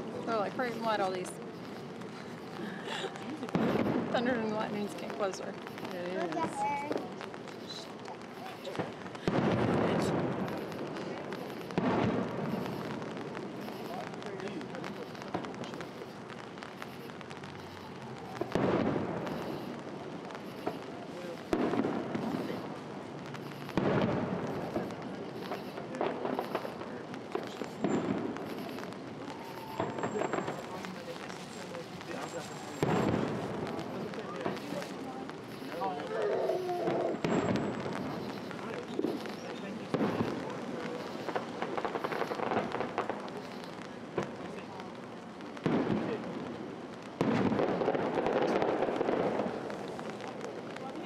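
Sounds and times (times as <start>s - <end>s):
fireworks booms with echo: 0.0s - 51.0s.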